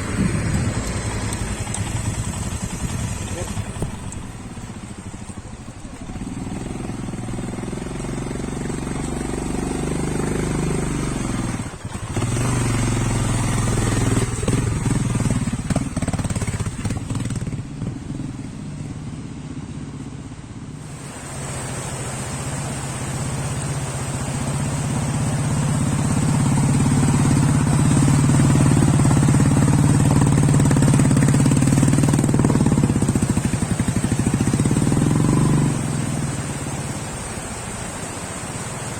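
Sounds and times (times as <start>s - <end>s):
motorcycle engine running: 0.0s - 21.1s, 22.0s - 38.7s.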